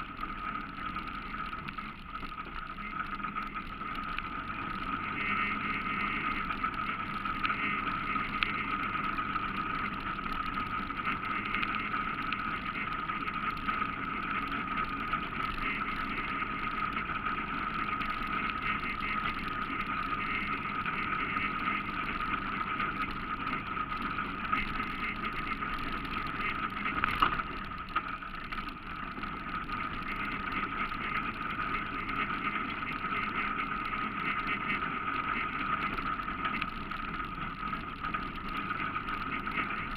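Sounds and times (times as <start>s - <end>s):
atv engine running: 0.0s - 39.9s
high whine: 0.0s - 39.9s.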